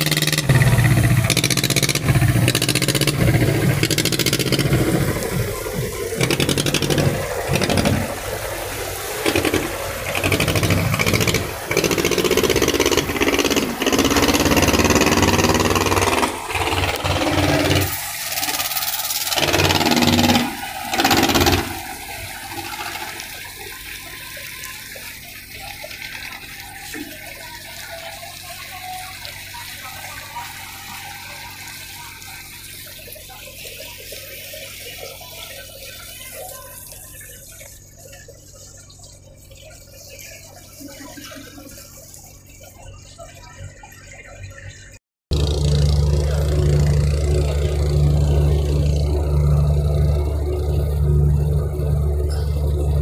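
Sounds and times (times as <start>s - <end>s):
boat engine hum: 0.0s - 53.0s
water rushing along boat hull: 0.0s - 53.0s.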